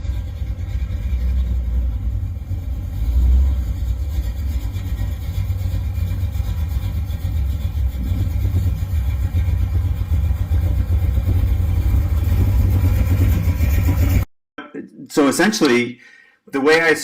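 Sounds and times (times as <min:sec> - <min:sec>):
car engine rumbling: 0:00.0 - 0:14.3.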